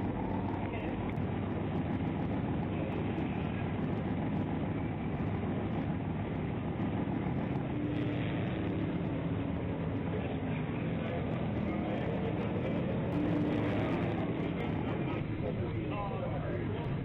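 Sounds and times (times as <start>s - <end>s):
faint hum: 0.0s - 17.0s
vehicle engine and road noise: 0.0s - 17.0s.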